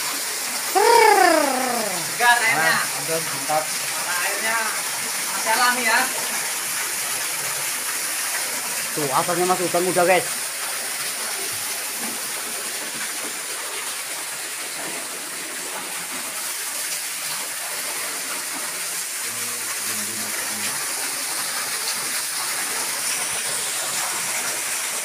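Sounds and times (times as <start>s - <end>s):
waterfall splashing on rock: 0.0s - 25.0s.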